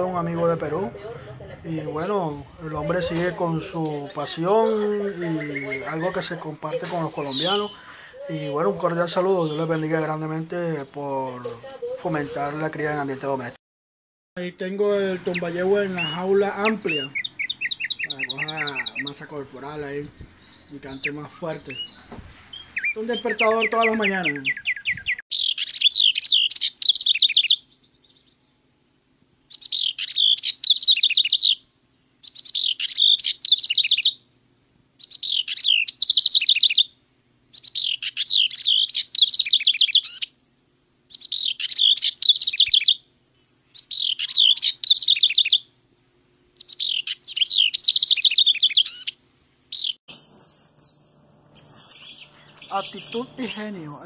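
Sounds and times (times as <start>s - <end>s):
wren singing trilled songs: 2.0s - 13.5s, 14.8s - 28.7s, 29.5s - 31.6s, 32.2s - 34.2s, 35.0s - 40.4s, 41.0s - 45.7s, 46.5s - 54.0s.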